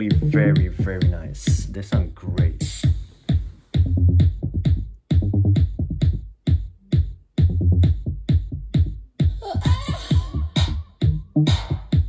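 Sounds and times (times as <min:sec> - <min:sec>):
electronic music with bass: 0:00.0 - 0:12.0.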